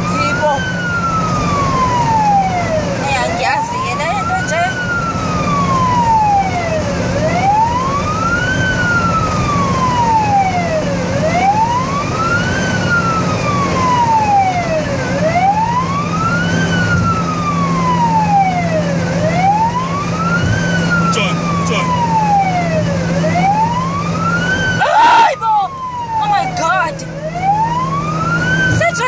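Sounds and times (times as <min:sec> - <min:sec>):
ambulance siren wailing: 0:00.0 - 0:29.0.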